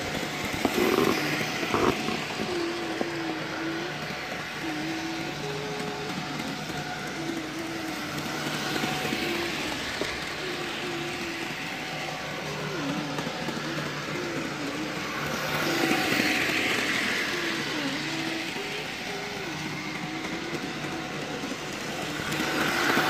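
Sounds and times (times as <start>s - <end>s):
model train motor whining: 0.0s - 23.0s.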